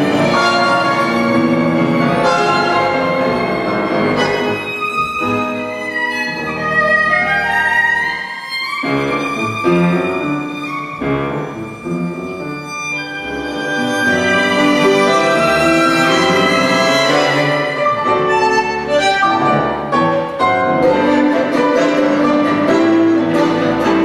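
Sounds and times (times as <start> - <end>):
bandoneon: 0.0 - 24.0
piano: 0.0 - 24.0
violin melody: 0.0 - 24.0.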